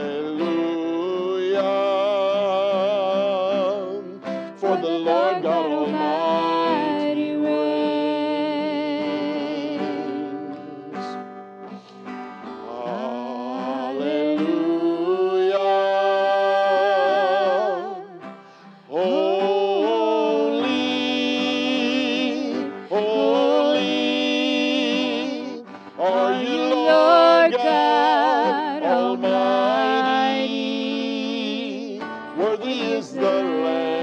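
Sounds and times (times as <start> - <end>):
man singing: 0.0 - 11.2, 12.4 - 18.3, 18.9 - 34.0
acoustic guitar: 0.0 - 34.0.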